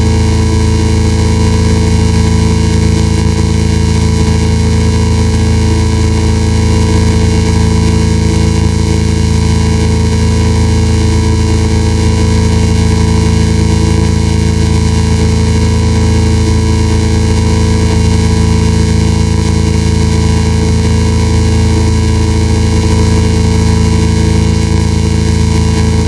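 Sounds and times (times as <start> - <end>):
electronic drone with held tones: 0.0 - 26.0.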